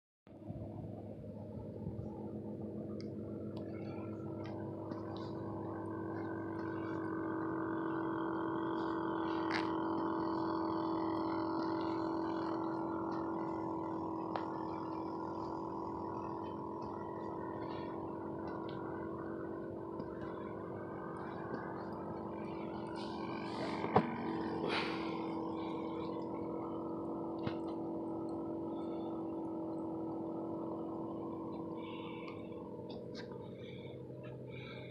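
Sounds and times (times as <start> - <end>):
aerator pump humming: 0.3 - 34.9.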